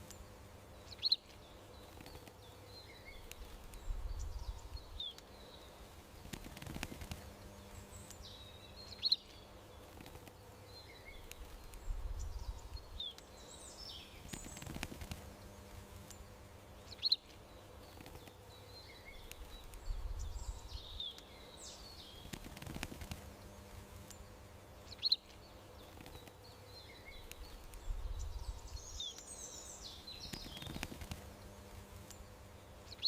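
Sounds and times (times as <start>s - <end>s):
faint outdoor background: 0.0s - 33.0s
small songbirds chirping: 0.0s - 33.0s.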